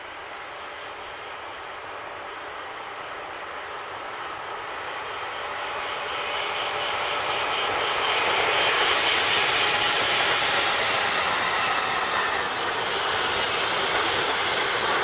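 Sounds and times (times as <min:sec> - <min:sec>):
electric freight train passing: 0:00.0 - 0:15.0.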